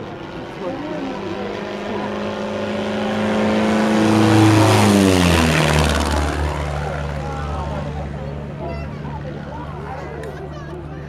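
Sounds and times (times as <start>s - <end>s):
propeller plane engine passing overhead: 0.0s - 11.0s.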